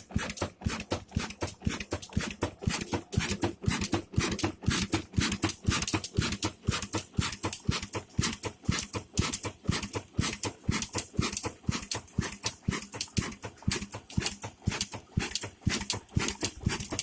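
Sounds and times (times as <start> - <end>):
diesel engine knocking beats: 0.0 - 17.0.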